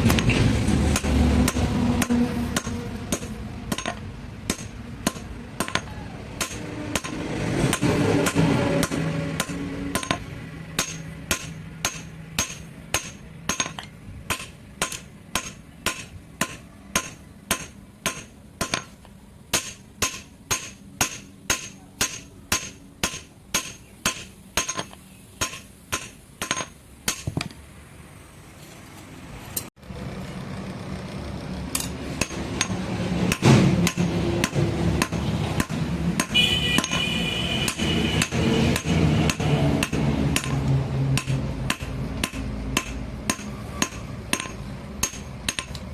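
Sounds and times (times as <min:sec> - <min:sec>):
hammer striking metal: 0:00.0 - 0:27.6, 0:31.7 - 0:45.9.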